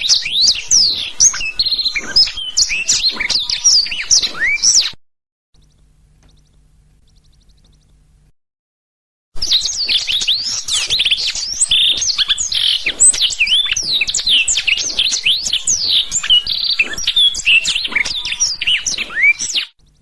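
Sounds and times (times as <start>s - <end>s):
songbird singing rapid trills: 0.0s - 4.9s, 5.6s - 8.0s, 9.4s - 19.8s.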